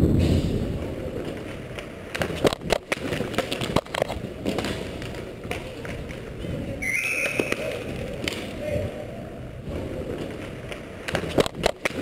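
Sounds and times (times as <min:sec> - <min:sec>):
inline skates rolling on rink floor: 0:00.0 - 0:12.0
hockey sticks and bodies clacking: 0:00.6 - 0:09.1, 0:09.7 - 0:12.0.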